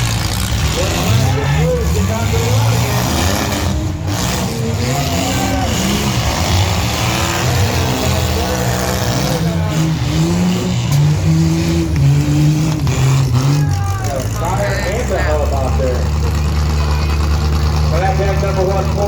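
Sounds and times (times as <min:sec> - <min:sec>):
pickup truck engines revving: 0:00.0 - 0:19.0.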